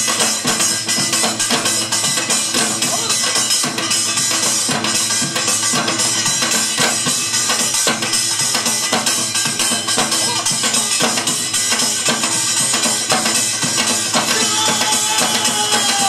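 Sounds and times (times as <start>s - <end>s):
barrel drum beaten with stick: 0.0s - 16.0s
music playing: 0.0s - 16.0s.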